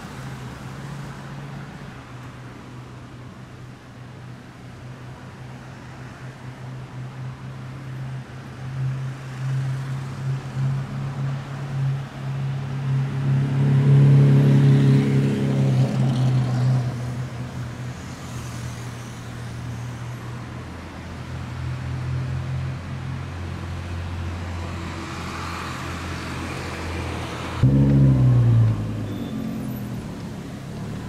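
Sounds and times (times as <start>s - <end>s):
traffic hum: 0.0s - 31.0s.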